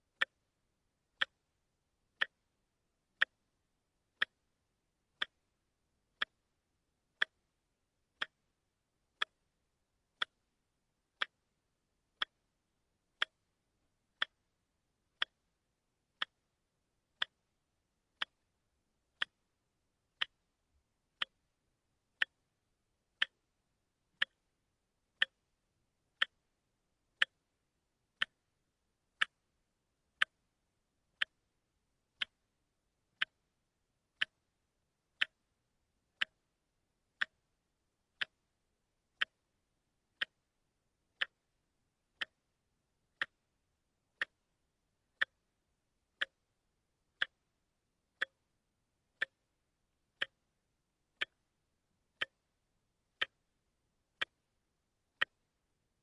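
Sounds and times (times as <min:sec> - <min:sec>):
watch ticking: 0:00.2 - 0:00.5, 0:01.1 - 0:02.5, 0:03.1 - 0:06.5, 0:07.1 - 0:27.6, 0:28.2 - 0:28.5, 0:29.1 - 0:33.6, 0:34.2 - 0:37.5, 0:38.2 - 0:40.5, 0:41.1 - 0:42.5, 0:43.1 - 0:43.5, 0:44.1 - 0:48.5, 0:49.1 - 0:51.5, 0:52.2 - 0:55.7.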